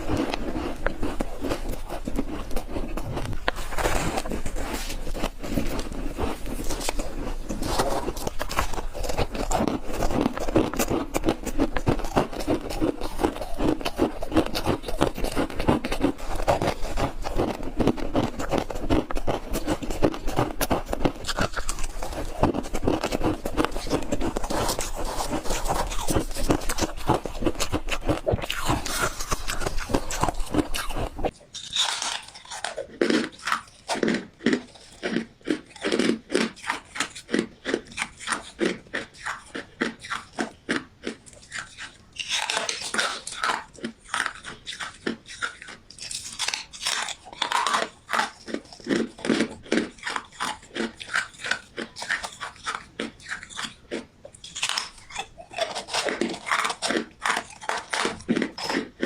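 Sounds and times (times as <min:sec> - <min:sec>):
ice being chewed crunching: 0:00.0 - 0:59.0.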